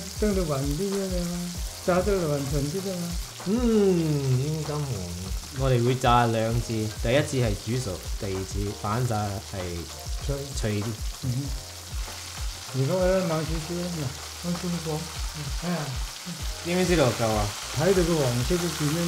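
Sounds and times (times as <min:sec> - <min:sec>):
man speaking: 0:00.0 - 0:11.6, 0:12.7 - 0:19.0
oil sizzling and bubbling: 0:00.0 - 0:19.0.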